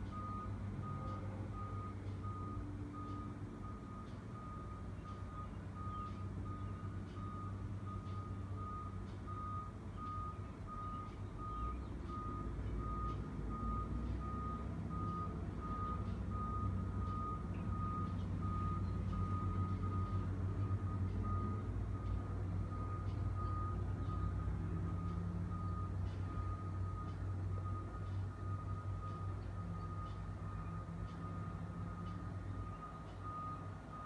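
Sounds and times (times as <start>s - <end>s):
diesel machinery running: 0.0s - 34.0s
reversing alarm beeping: 0.1s - 34.0s.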